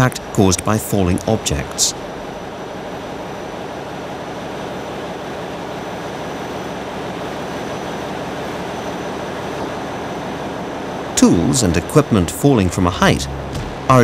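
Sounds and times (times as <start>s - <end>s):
engine room rumble and hiss: 0.0s - 14.0s
faint high-pitched whine: 0.0s - 14.0s.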